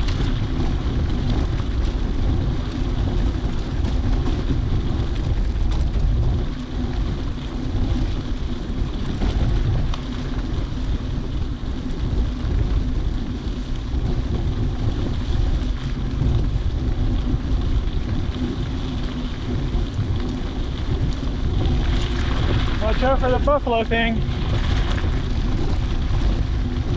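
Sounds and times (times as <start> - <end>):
bike rolling on dirt trail: 0.0 - 26.9
wind buffeting microphone: 0.0 - 26.9.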